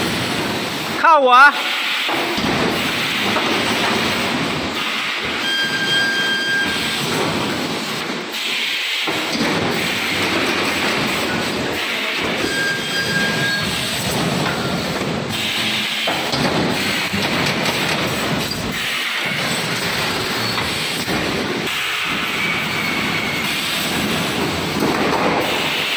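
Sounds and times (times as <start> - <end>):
welding machine running: 1.6 - 25.9.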